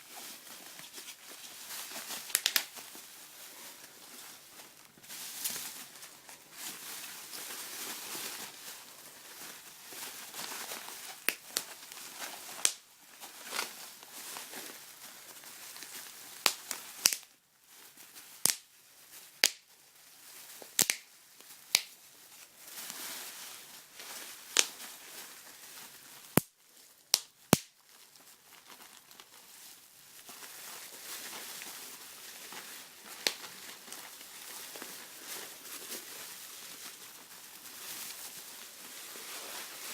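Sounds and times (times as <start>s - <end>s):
bubble wrap crinkling: 0.0s - 39.9s
bubble wrap popping: 0.0s - 39.9s.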